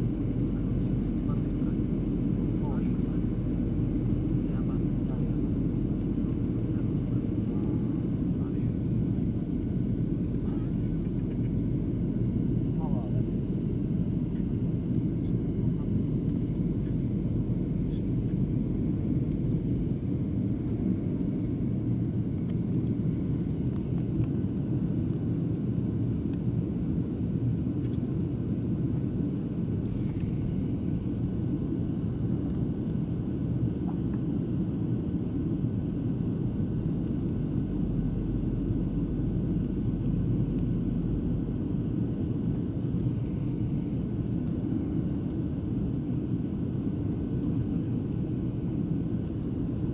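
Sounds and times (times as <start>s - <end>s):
airliner cabin engine drone: 0.0s - 49.9s.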